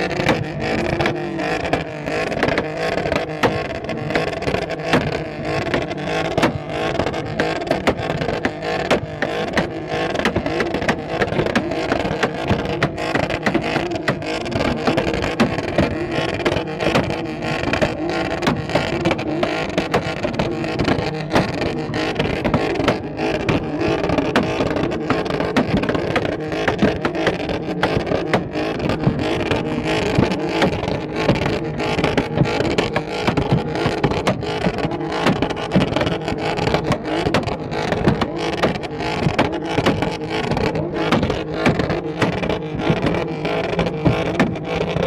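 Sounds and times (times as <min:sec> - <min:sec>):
car engine running: 0:00.0 - 0:45.0
car exhaust popping and banging: 0:00.0 - 0:45.0.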